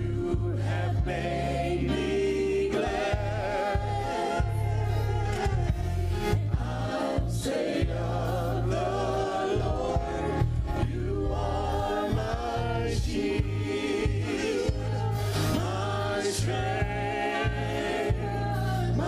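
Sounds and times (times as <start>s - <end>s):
choir singing: 0.0s - 19.0s
band with heavy bass: 2.8s - 19.0s.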